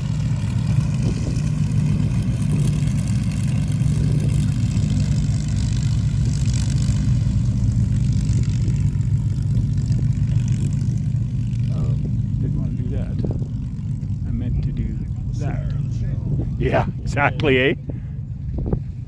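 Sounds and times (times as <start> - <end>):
piston aircraft engines droning: 0.0 - 19.0.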